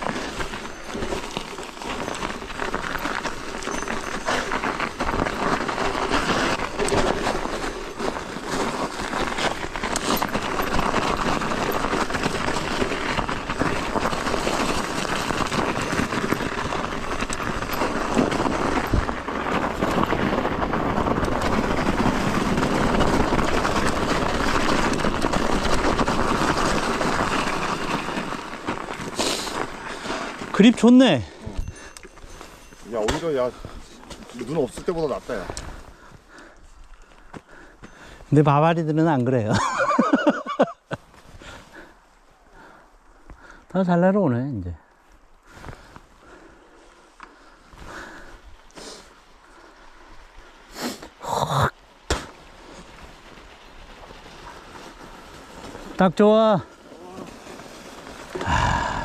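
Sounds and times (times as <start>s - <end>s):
bike tyres rolling on snow: 0.0s - 59.0s.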